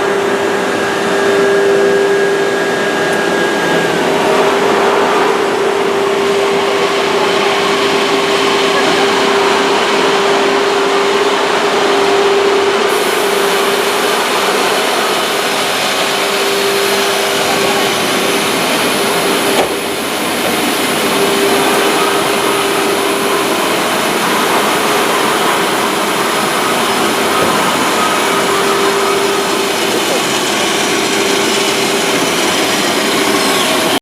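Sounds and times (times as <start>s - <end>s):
wood-cutting machine whining: 0.0s - 34.0s.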